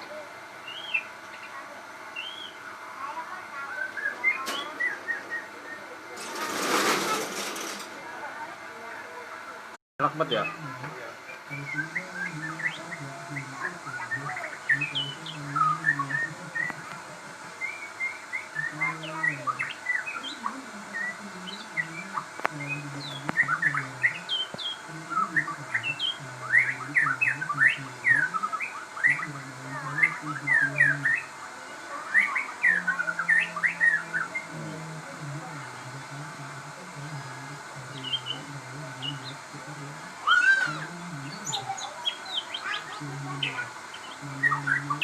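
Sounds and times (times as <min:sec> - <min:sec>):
songbird singing chirps and whistles: 0:00.0 - 0:09.6, 0:10.2 - 0:45.0.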